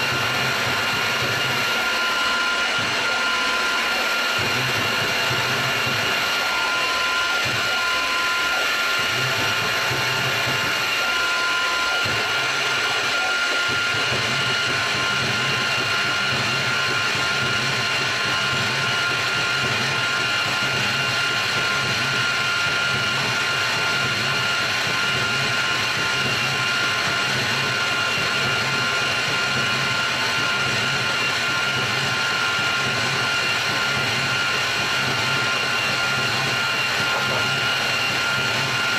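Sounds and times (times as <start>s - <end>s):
milling machine spindle whining: 0.0s - 38.9s.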